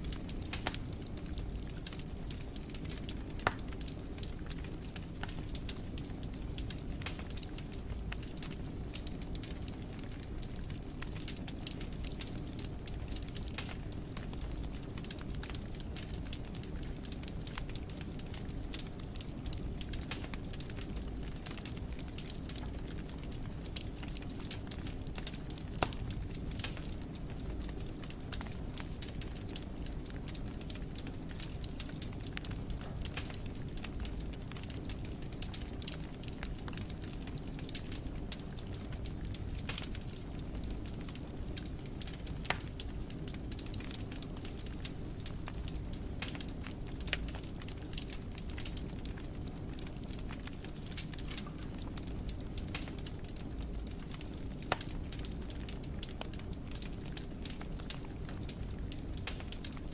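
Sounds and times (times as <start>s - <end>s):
fire crackling and popping: 0.0s - 59.9s
flames rumbling: 0.0s - 59.9s.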